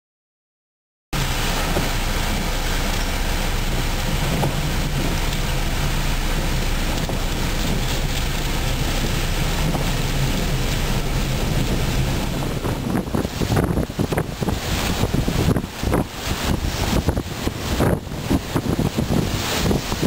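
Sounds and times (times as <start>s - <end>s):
low rumble: 1.2s - 20.0s
wind and rain against car: 1.2s - 20.0s.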